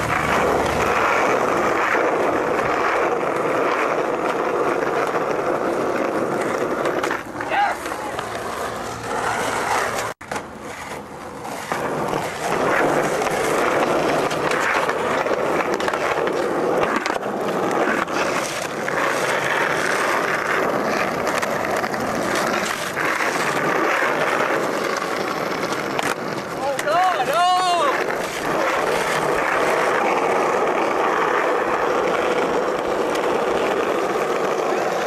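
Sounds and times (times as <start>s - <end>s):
skateboard wheels rolling on asphalt: 0.0s - 35.0s.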